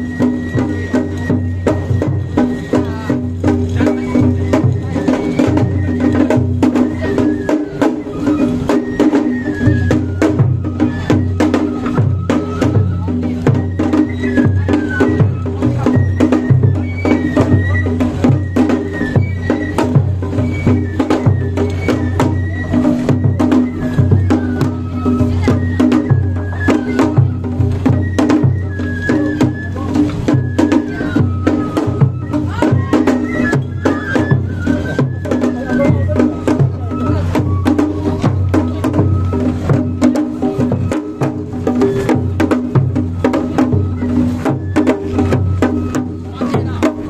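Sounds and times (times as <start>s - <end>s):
drums and clacking percussion: 0.0s - 47.0s
high wavering flute melody: 0.0s - 47.0s
people's voices: 0.0s - 47.0s.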